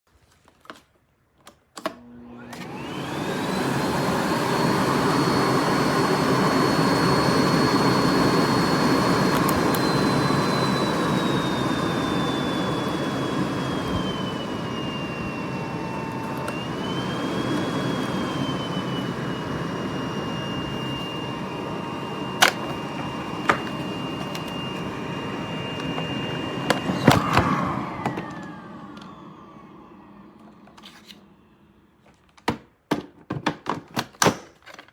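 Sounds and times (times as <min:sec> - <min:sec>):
vacuum cleaner motor whine: 0:01.8 - 0:32.2.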